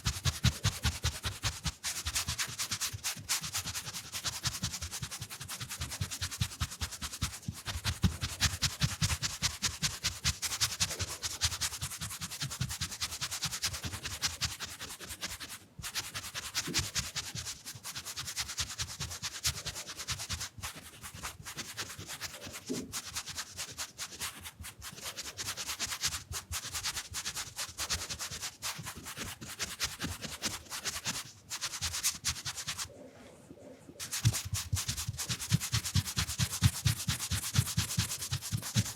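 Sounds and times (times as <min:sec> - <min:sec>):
brush scratching on microphone: 0:00.0 - 0:32.9, 0:34.0 - 0:38.9.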